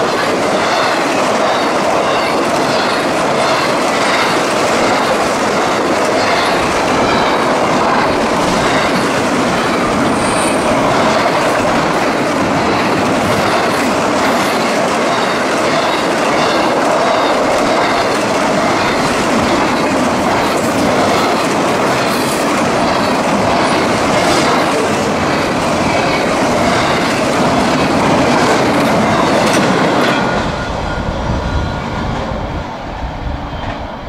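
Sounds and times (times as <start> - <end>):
wheels clicking over rail joints: 0.0 - 30.6
freight train wheels rumbling: 0.0 - 34.0.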